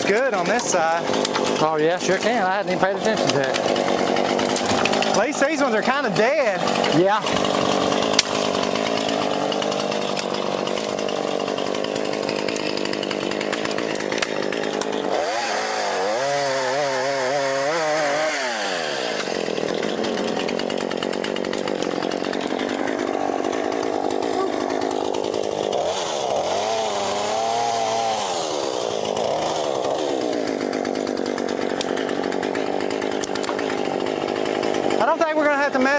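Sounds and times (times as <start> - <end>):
power tool running: 0.0 - 35.9.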